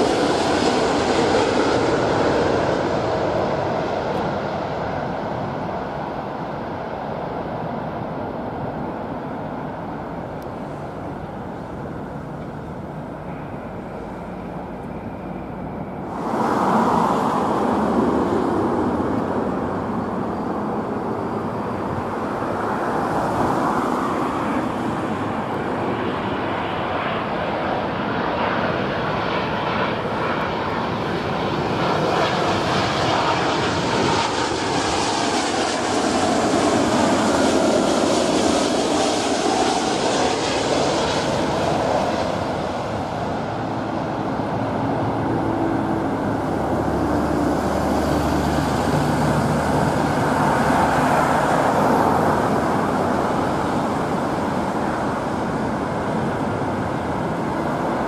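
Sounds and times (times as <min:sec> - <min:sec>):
jet passing low overhead: 0:00.0 - 0:58.0.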